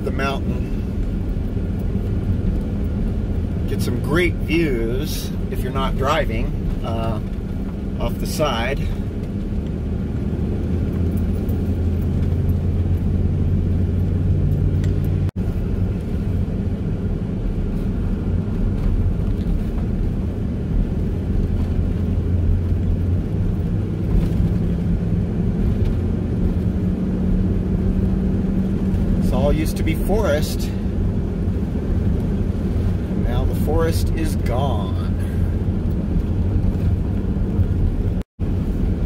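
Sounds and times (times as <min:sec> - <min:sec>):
car engine droning: 0:00.0 - 0:39.0.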